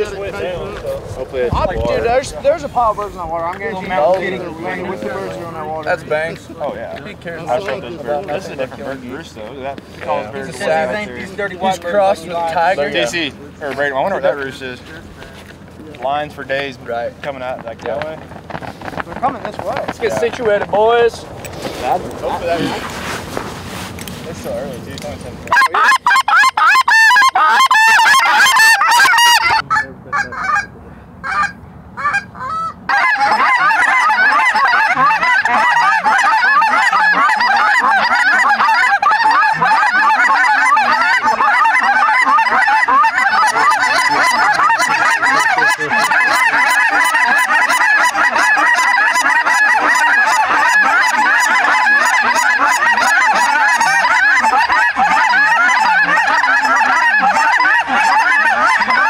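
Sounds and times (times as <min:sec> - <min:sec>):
flock of geese honking: 0:00.0 - 0:59.0.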